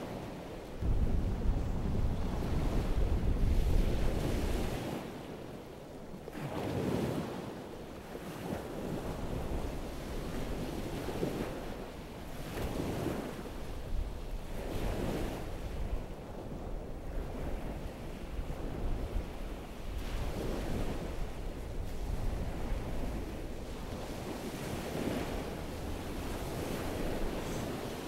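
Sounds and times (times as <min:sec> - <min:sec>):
surf washing onto shore: 0:00.0 - 0:05.5, 0:08.2 - 0:28.0
wind buffeting microphone: 0:00.0 - 0:28.0.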